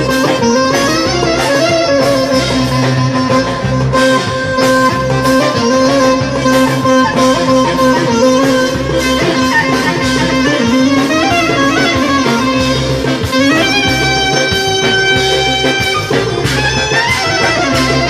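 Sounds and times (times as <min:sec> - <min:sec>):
clarinet melody: 0:00.0 - 0:18.0
plucked bouzouki: 0:00.0 - 0:18.0
steady drum beat: 0:00.0 - 0:18.0.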